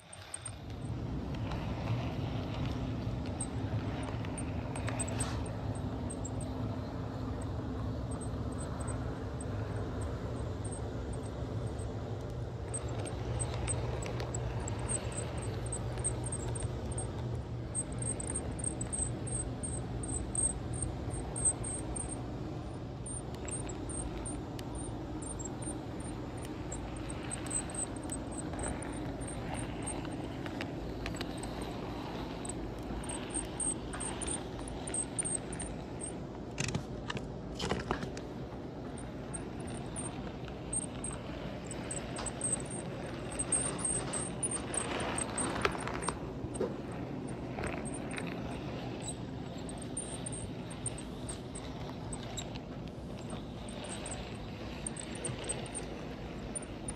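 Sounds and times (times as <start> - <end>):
model train rolling on track: 0.0 - 37.5, 38.2 - 56.9.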